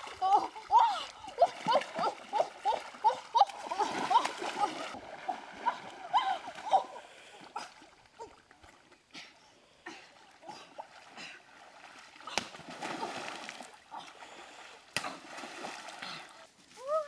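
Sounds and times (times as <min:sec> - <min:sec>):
water splashing: 0:00.0 - 0:09.0, 0:10.1 - 0:17.0.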